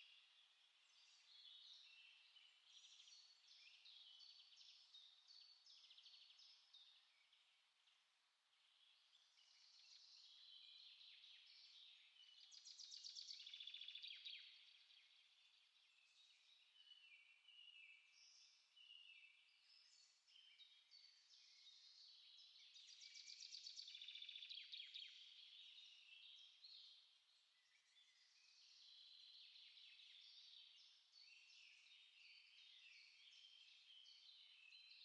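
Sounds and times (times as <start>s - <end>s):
songbirds chirping and singing: 0.0s - 35.0s.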